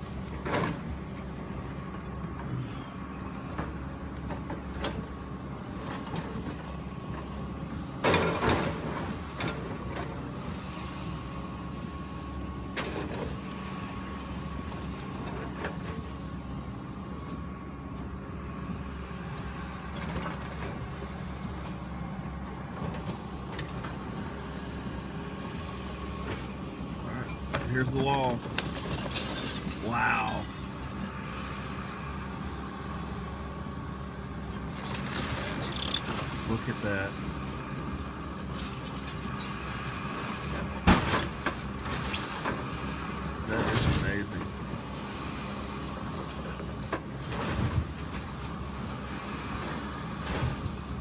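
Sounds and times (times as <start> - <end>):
demolition machine engine running: 0.0 - 51.0.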